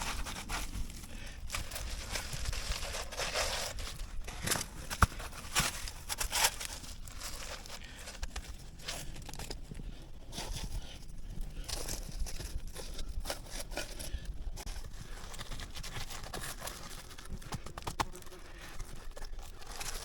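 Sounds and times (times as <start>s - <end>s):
rustling and scraping handling noises: 0.0s - 20.0s.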